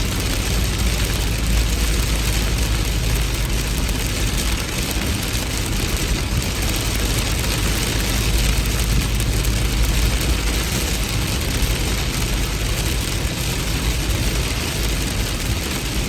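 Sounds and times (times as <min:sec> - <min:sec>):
deep steady rumble: 0:00.0 - 0:16.0
heavy rain pouring: 0:00.0 - 0:16.0.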